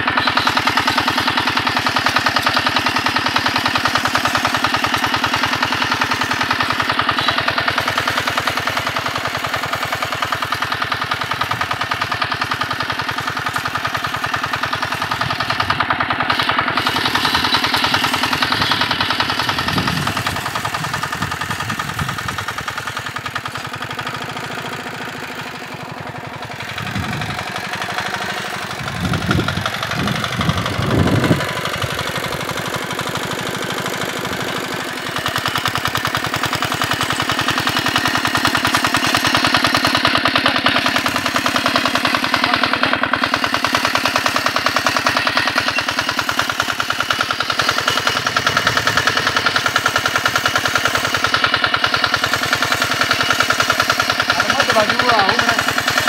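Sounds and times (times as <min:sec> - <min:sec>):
tiller engine chugging: 0:00.0 - 0:56.0.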